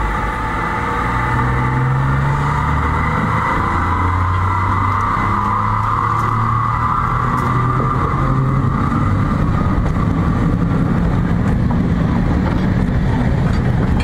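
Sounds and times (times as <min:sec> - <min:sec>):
diesel locomotives rumbling on rails: 0:00.0 - 0:14.0
electric locomotive whine: 0:00.0 - 0:14.0.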